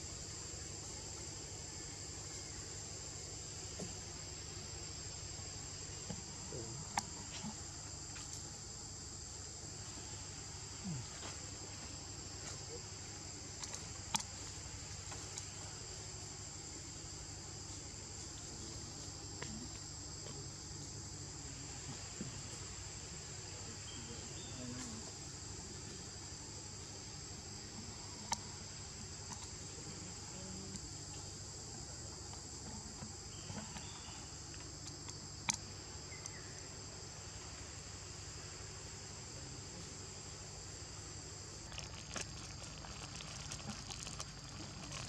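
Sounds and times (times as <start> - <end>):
insect chorus buzzing: 0.0 - 45.0.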